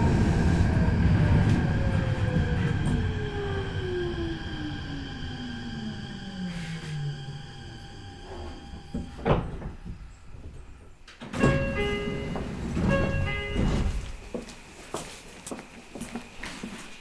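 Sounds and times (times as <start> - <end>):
train sliding doors opening: 0.0 - 15.2.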